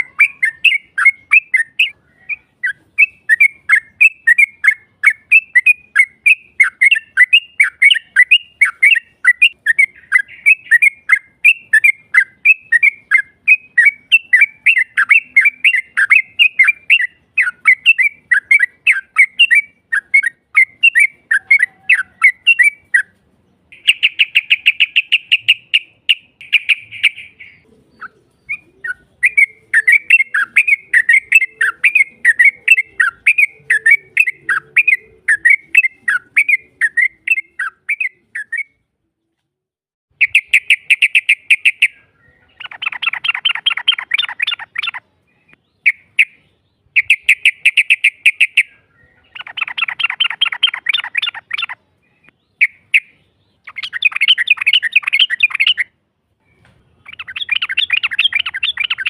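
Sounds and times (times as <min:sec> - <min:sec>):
bird chattering and trilling: 0:00.0 - 0:38.8, 0:40.2 - 0:59.0.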